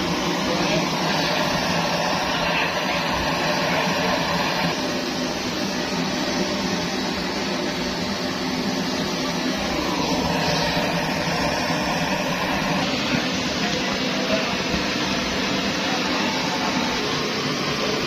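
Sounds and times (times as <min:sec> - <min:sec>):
kerosene stove burner rushing: 0:00.0 - 0:18.0.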